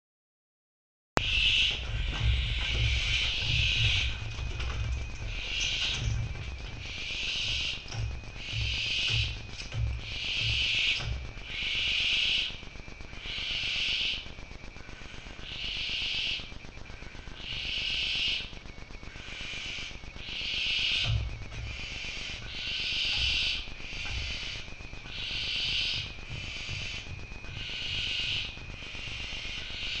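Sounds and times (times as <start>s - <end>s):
owlets rasping hiss calls: 1.2s - 12.6s, 13.2s - 14.3s, 14.9s - 16.5s, 17.2s - 18.5s, 19.1s - 30.0s.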